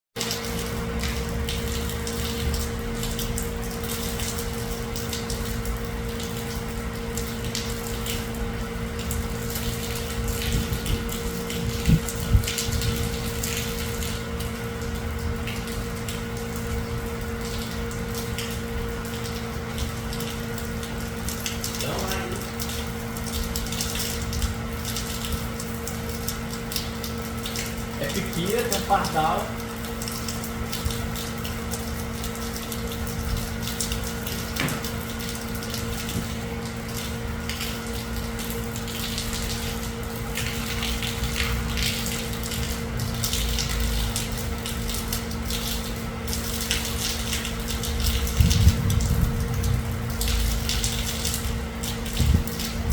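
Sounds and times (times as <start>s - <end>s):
electric pump humming: 0.2s - 52.9s
water running and splashing: 0.2s - 52.9s.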